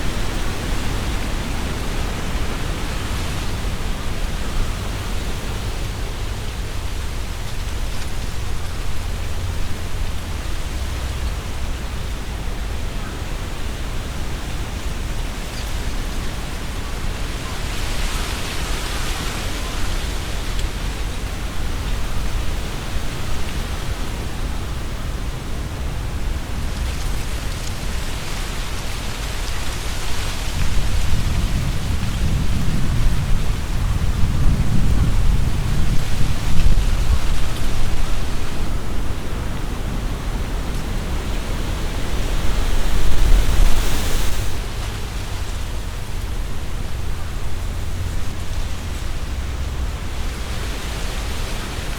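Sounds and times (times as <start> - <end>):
strong wind through trees: 0.0 - 51.9.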